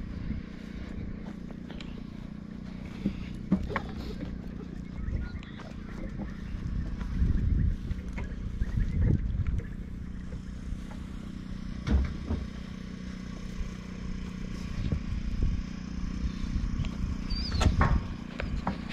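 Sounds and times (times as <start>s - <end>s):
low motor hum: 0.0s - 18.9s.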